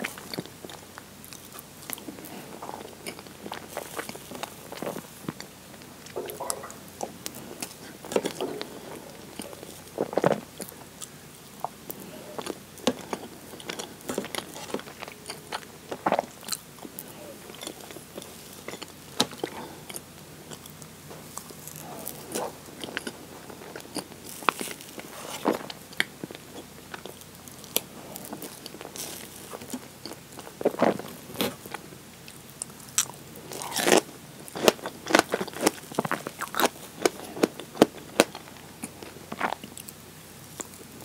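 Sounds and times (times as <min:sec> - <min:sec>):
close chewing mouth sounds: 0:00.0 - 0:41.0.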